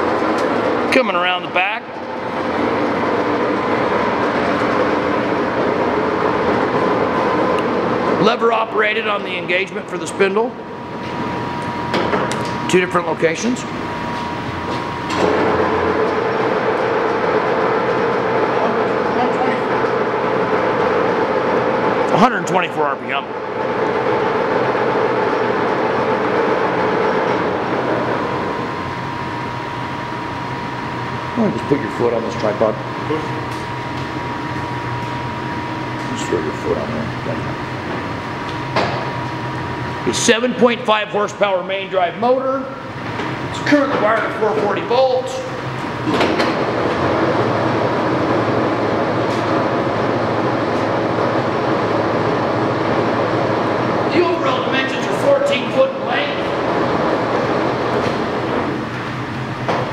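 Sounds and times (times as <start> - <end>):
lathe whirring: 0.0 - 59.9
thin steady whine: 0.0 - 59.9.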